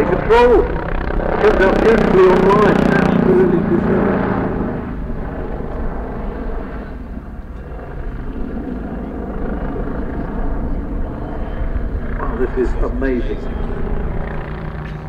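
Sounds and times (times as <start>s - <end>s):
helicopter flying overhead: 0.0s - 15.0s.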